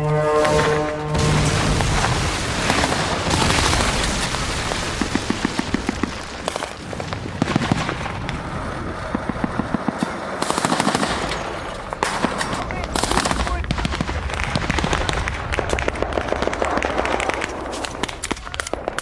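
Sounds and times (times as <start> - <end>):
machine-gun fire: 0.6 - 8.4, 9.0 - 19.0.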